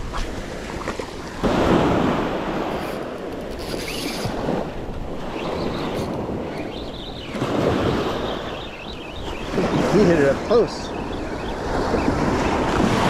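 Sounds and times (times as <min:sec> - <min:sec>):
small waves breaking on sand: 0:00.0 - 0:13.0
wind on microphone: 0:00.0 - 0:13.0.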